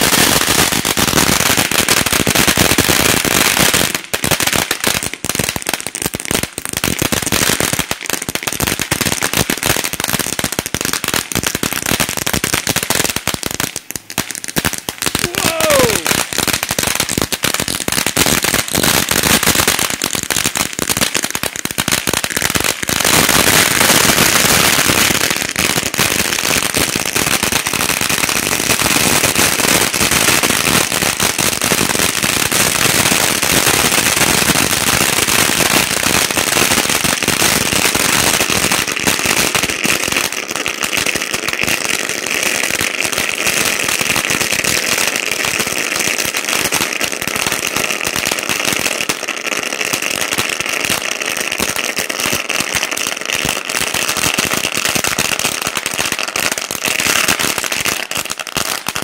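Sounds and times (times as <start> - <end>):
fountain firework crackling: 0.0 - 59.0.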